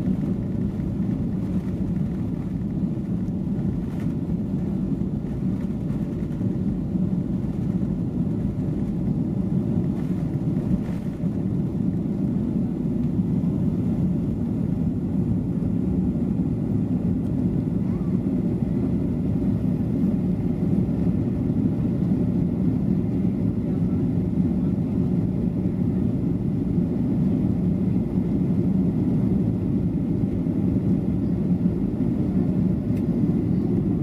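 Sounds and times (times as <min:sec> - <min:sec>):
jet engine rumble in cabin: 0:00.0 - 0:34.0.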